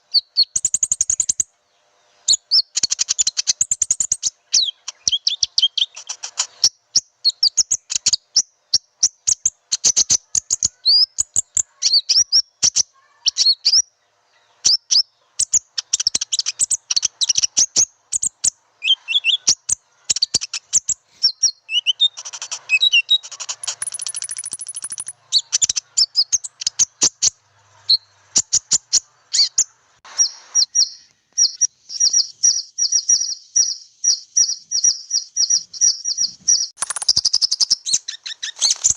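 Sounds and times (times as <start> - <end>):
bird calls: 0.0 - 38.9.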